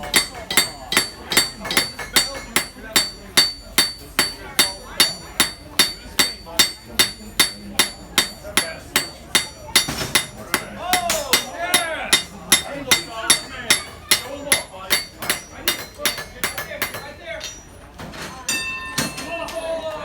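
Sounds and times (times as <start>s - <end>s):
hammer striking metal on anvil: 0.0s - 17.7s, 18.5s - 19.2s.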